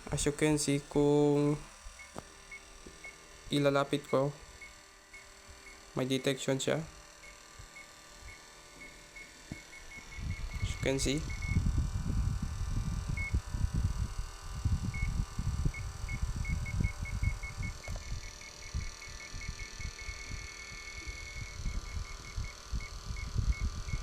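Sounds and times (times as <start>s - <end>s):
voltage detector beeping: 0.0s - 24.0s.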